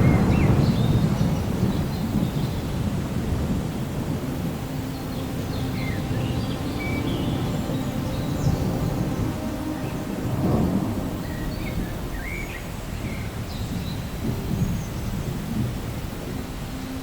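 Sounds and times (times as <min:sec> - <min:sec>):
distant thunder rumbling: 0:00.0 - 0:17.0
steady rain: 0:00.0 - 0:17.0.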